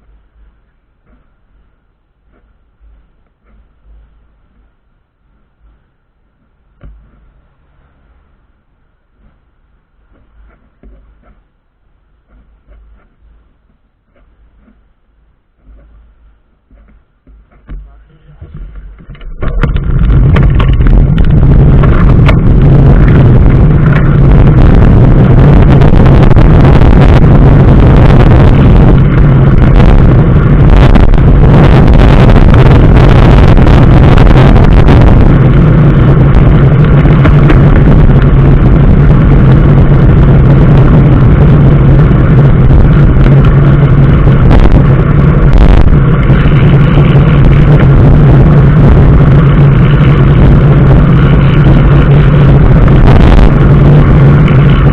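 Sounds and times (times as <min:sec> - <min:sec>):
road and wind noise: 0:00.0 - 0:54.9
road vehicle driving: 0:00.0 - 0:54.9.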